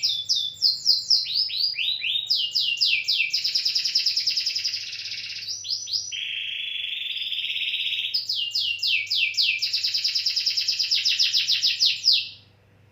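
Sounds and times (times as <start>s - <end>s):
canary singing trills: 0.0s - 12.5s.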